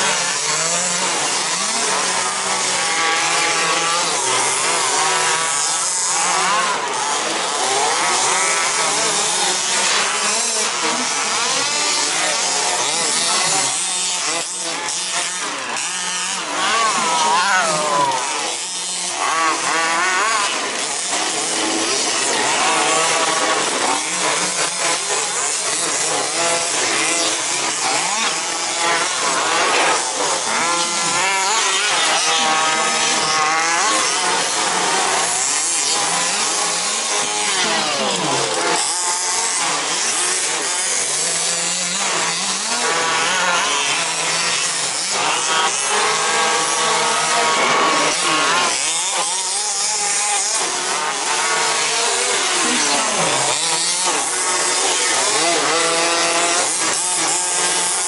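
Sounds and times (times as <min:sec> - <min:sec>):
rc buggy motors whining: 0:00.0 - 0:58.0.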